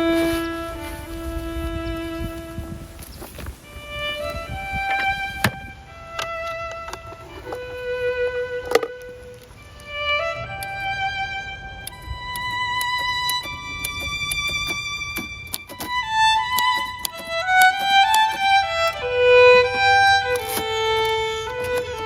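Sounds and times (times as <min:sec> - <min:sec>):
slow violin melody: 0:00.0 - 0:22.0.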